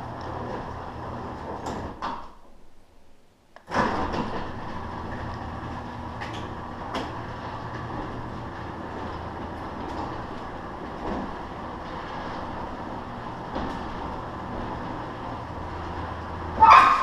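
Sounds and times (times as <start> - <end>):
garage door opener clunk: 0.0 - 2.4, 3.6 - 17.0
garage door opener motor hum: 0.0 - 2.4, 3.6 - 17.0.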